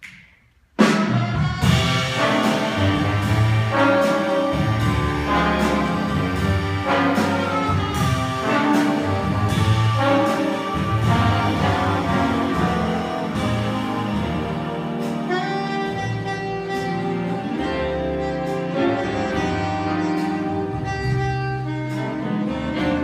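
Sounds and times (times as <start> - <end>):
jazz big band playing: 0.8 - 23.0.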